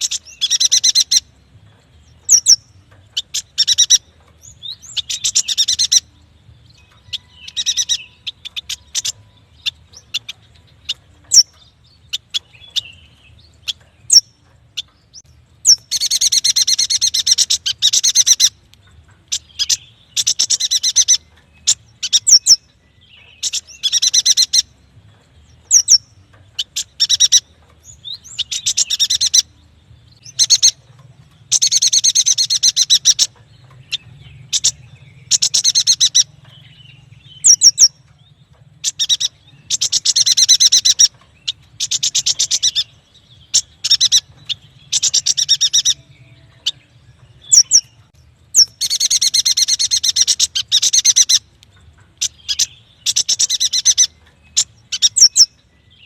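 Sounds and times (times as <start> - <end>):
bird chattering trills: 0.0 - 1.3, 2.2 - 6.2, 6.9 - 18.6, 19.2 - 24.8, 25.6 - 29.6, 30.2 - 30.8, 31.4 - 38.2, 38.8 - 55.7.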